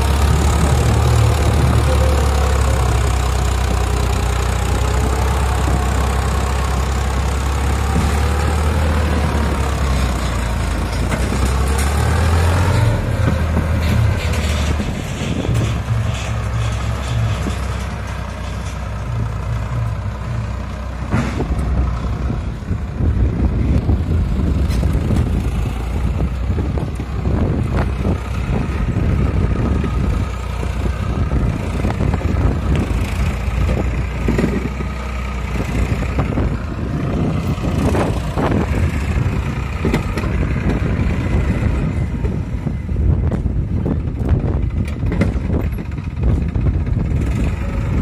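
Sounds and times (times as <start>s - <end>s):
tractor diesel engine working hard: 0.0s - 48.0s.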